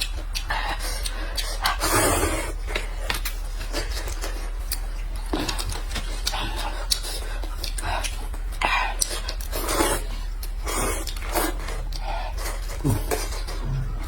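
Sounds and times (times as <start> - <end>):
chewing: 0.0 - 14.0
low electrical hum: 0.0 - 14.0.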